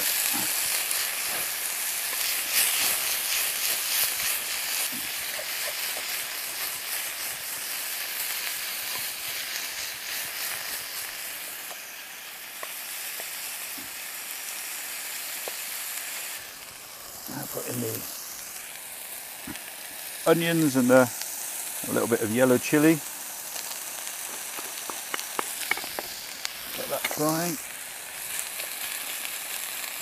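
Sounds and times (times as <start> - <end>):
chicken sizzling in a frying pan: 0.0 - 30.0.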